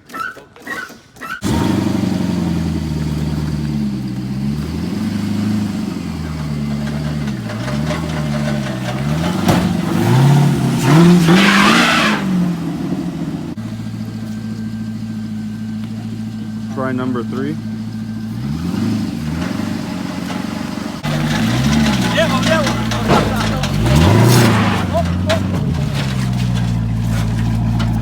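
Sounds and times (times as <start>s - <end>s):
tyres spinning on snow: 0.0s - 28.0s
engine revving under load: 1.4s - 28.0s.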